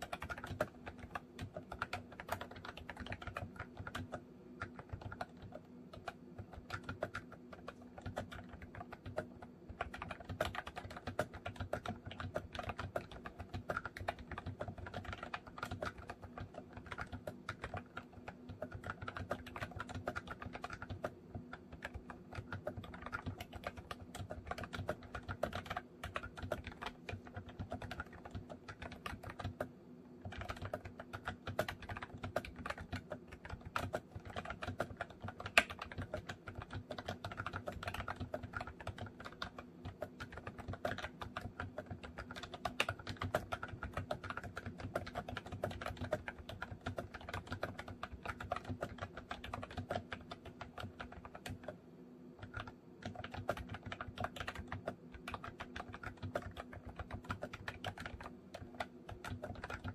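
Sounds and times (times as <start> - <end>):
fast typing key clicks: 0.0 - 51.8, 52.4 - 59.9.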